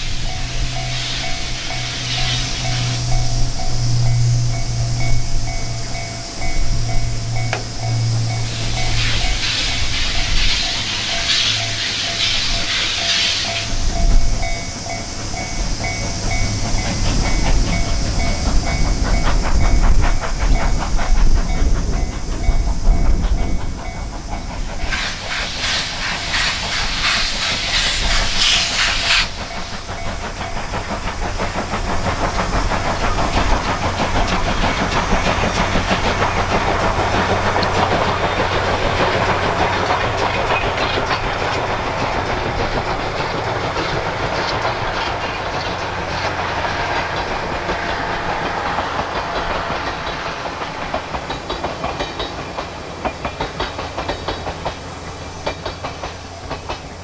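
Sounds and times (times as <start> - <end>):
steam hiss: 0.0 - 57.0
steam locomotive chuffing: 0.0 - 57.0
train wheels clickety-clack: 0.0 - 57.0.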